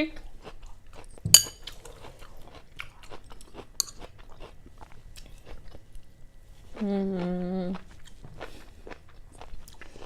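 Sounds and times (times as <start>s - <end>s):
crunchy food chewing: 0.2s - 10.0s.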